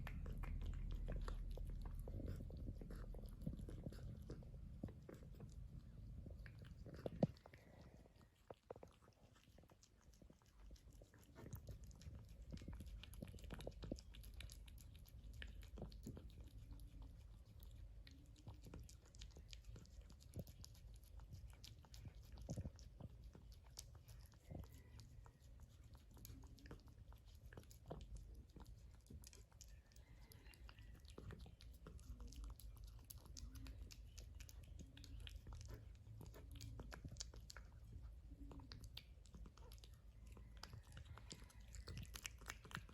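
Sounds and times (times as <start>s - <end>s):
cat chewing wet food: 0.0s - 42.9s.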